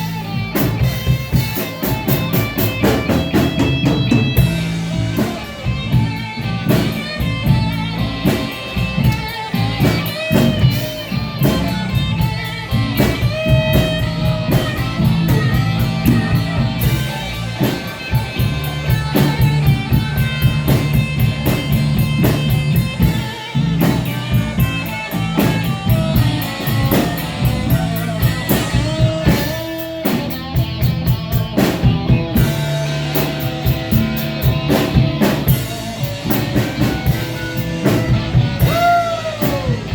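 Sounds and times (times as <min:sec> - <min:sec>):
blues-rock band playing: 0:00.0 - 0:39.9
electric guitar lead: 0:00.0 - 0:39.9.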